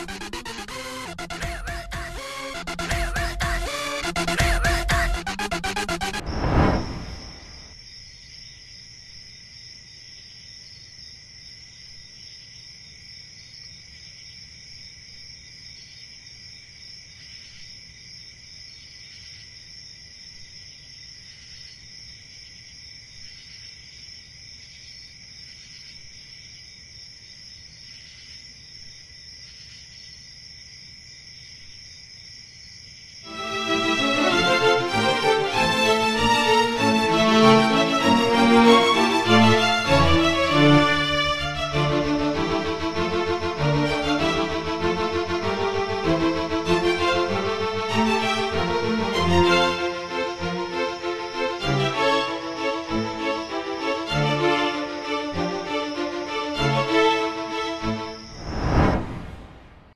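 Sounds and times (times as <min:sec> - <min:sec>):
crickets chirping: 0:06.3 - 0:33.4, 0:37.8 - 0:59.9.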